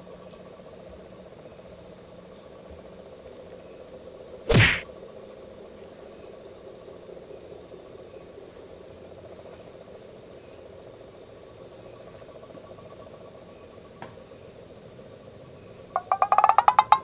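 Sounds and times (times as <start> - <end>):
faint mechanical hum: 0.0 - 17.0.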